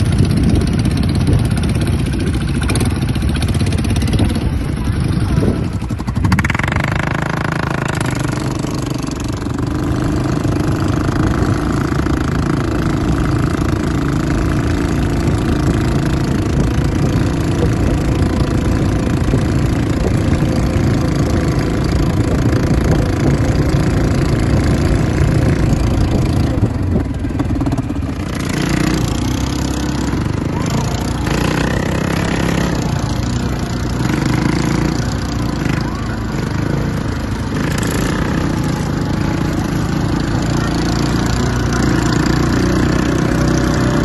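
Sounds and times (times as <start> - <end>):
quad bike engine running: 0.0 - 44.0.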